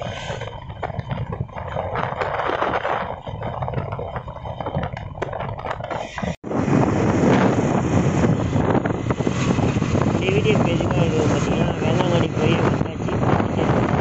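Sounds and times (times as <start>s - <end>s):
motorcycle riding at speed: 0.0s - 14.0s
wind rushing over microphone: 0.0s - 14.0s.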